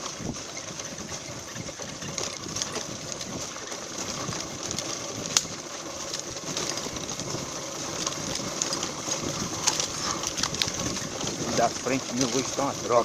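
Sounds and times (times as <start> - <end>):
motorcycle engine rattly chug: 0.0 - 13.0.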